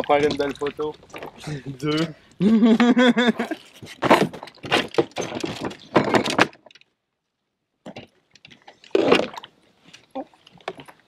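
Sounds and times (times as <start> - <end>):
fishing gear rattling against boat: 0.0 - 6.9, 7.9 - 11.0.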